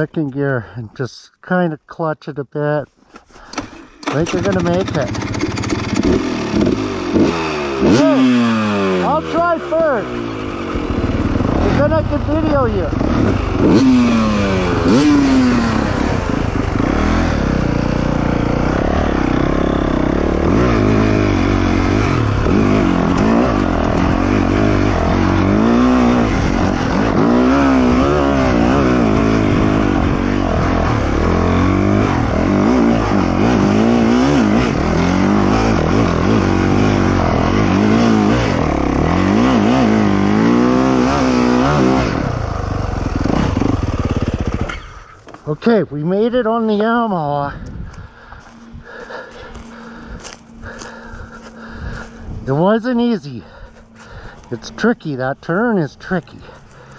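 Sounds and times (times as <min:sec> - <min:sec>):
dirt bike engine revving: 0:03.4 - 0:56.9.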